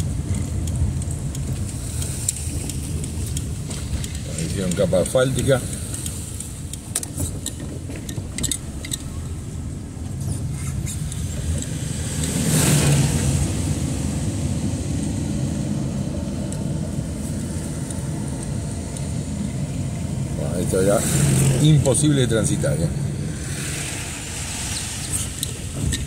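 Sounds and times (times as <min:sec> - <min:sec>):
car engine and tyre rumble: 0:00.0 - 0:26.0
wet road hiss: 0:01.5 - 0:07.3, 0:08.7 - 0:26.0.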